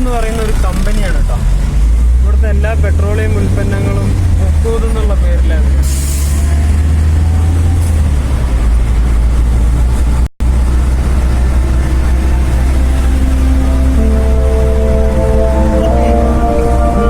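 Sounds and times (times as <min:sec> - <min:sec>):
van engine and tyre rumble: 0:00.0 - 0:17.0.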